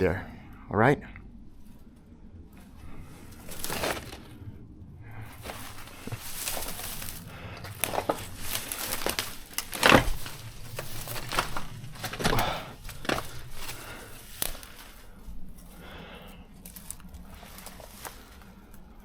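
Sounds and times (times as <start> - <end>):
footsteps crunching through debris: 2.9 - 4.4, 5.2 - 19.0.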